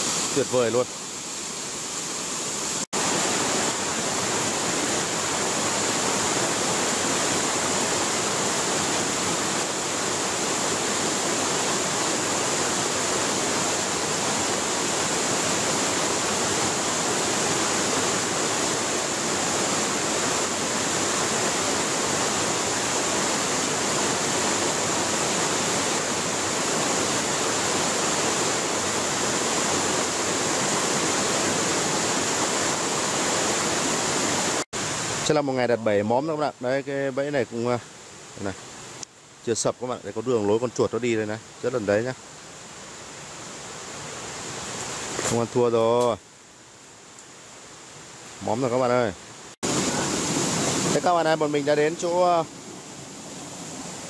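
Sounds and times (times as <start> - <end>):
waterfall and stream rushing over rocks: 0.0 - 54.0.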